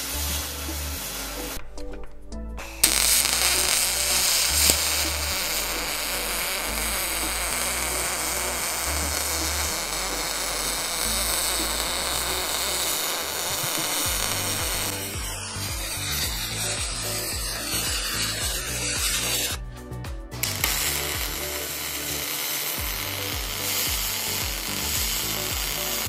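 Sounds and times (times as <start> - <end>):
welding arc hiss and crackle: 0.0 - 1.6, 2.6 - 19.6, 20.3 - 26.0
background music with bass line: 0.0 - 26.0.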